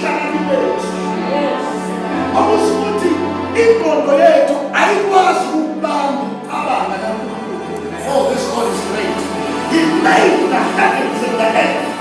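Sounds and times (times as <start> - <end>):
sustained keyboard chords: 0.0 - 12.0.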